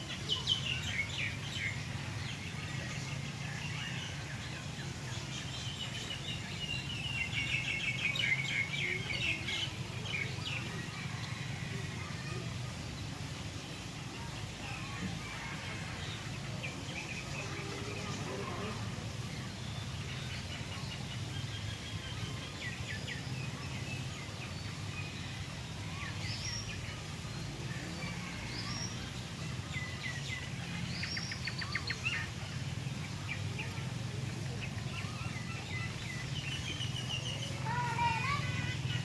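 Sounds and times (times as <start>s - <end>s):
small birds chirping and whistling: 0.0s - 12.1s, 14.5s - 39.0s.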